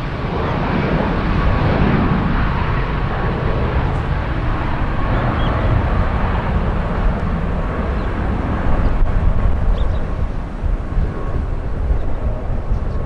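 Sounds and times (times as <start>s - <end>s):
jet engines roaring: 0.0s - 13.0s
wind buffeting microphone: 0.0s - 13.0s.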